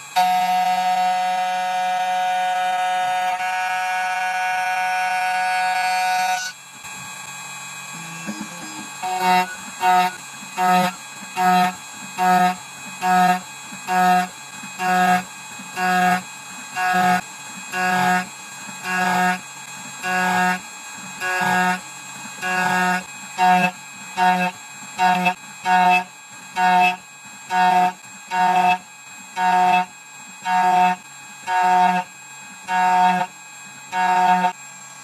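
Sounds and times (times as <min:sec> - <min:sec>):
key cutting machine whine pulses: 0:00.0 - 0:35.0.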